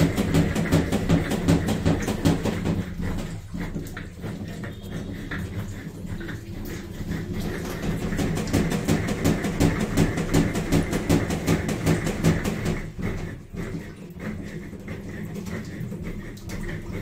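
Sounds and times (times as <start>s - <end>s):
fast rhythmic knocking clatter: 0.0s - 17.0s
washing machine humming: 0.0s - 17.0s.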